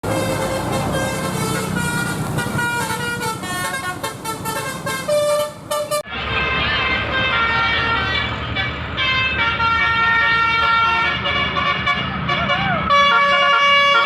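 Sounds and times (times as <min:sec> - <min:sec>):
musical bus air horns: 0:00.0 - 0:14.0.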